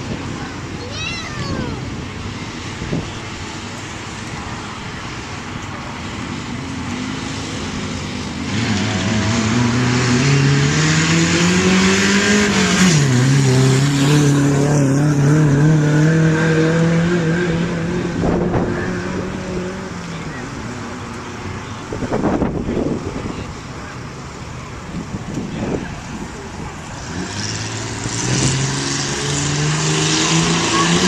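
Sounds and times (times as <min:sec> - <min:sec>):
rush of noise: 0:00.0 - 0:31.0
vehicle engine accelerating: 0:01.8 - 0:31.0.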